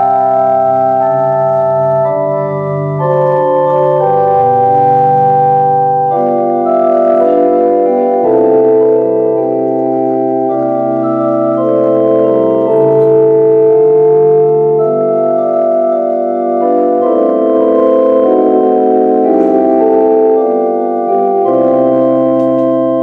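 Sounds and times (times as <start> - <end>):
organ playing sustained chords: 0.0 - 23.0.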